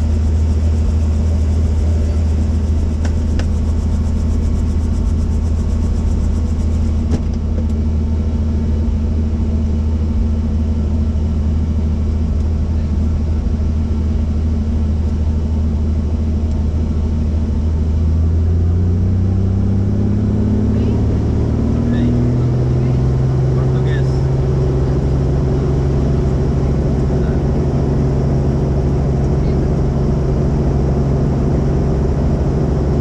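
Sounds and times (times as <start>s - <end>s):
helicopter rotor and engine: 0.0s - 33.0s.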